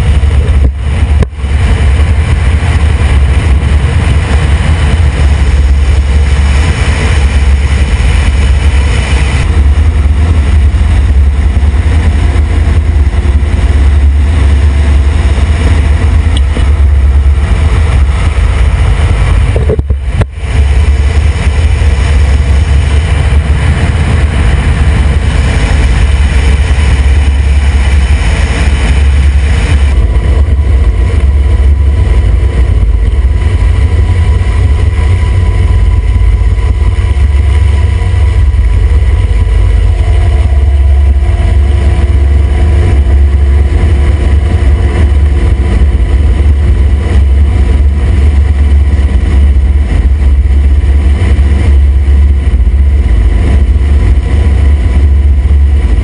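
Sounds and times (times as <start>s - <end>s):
helicopter rotor and turbines: 0.0s - 56.0s.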